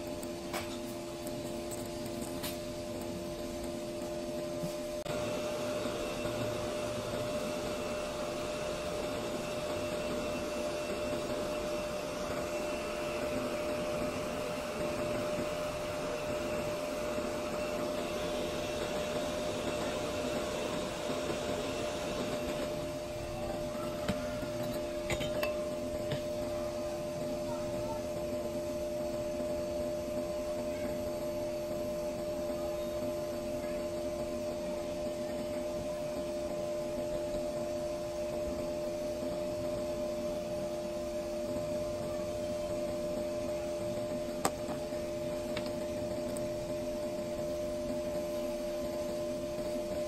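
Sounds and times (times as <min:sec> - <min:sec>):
steady whine: 0:00.0 - 0:50.0.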